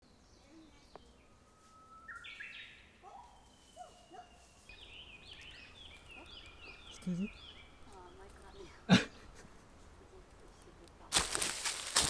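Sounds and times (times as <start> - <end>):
wild birds singing: 0.0 - 12.0.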